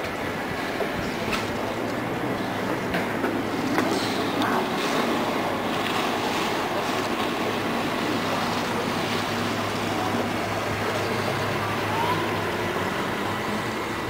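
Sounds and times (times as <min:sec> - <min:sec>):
outboard engines humming: 0:00.0 - 0:14.0
water churning: 0:00.0 - 0:14.0.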